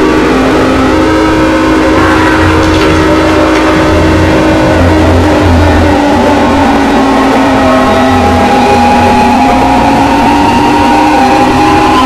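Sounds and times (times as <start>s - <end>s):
distorted synthesized alarm tones: 0.0s - 12.0s.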